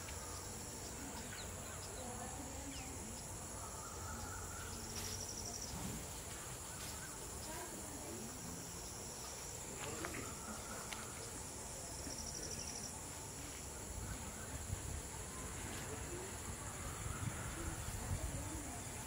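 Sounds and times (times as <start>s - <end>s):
insects chirping drone: 0.0s - 19.0s.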